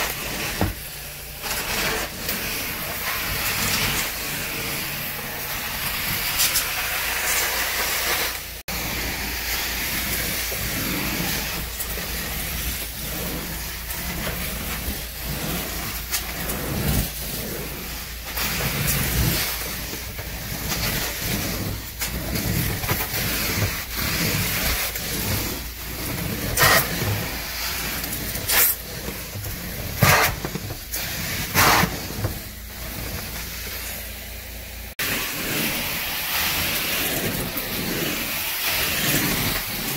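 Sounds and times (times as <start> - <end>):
carpet cleaner vacuum suction hiss: 0.0 - 39.9.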